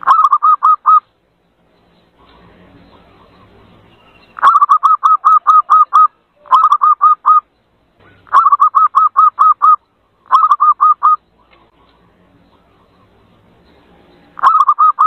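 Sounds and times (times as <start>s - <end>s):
rapid staccato bird call: 0.0s - 1.1s, 2.1s - 13.2s, 14.4s - 15.0s.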